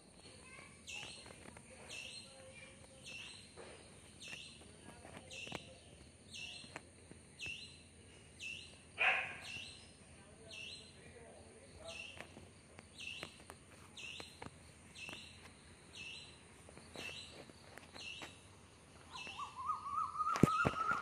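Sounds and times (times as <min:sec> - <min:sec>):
bird chirping: 0:00.2 - 0:21.0.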